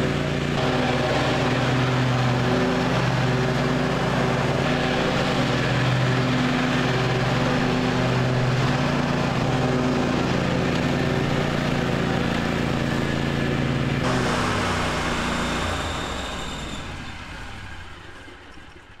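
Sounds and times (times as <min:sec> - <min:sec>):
riding mower engine running: 0:00.0 - 0:19.0.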